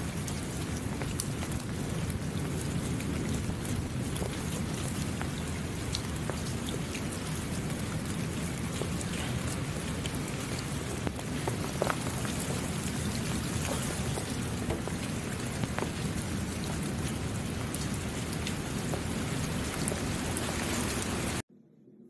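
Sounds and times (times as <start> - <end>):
heavy rain hissing: 0.0 - 21.4
raindrop ticks: 0.0 - 21.4.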